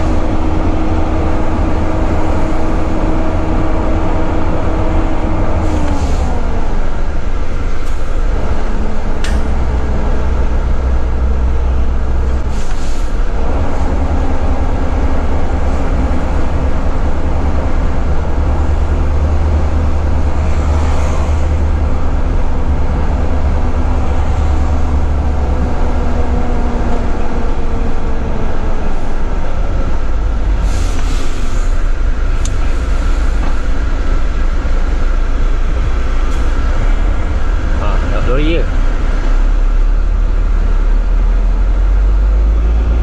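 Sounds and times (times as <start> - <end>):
road noise: 0.0 - 43.0
truck diesel engine drone: 0.0 - 43.0.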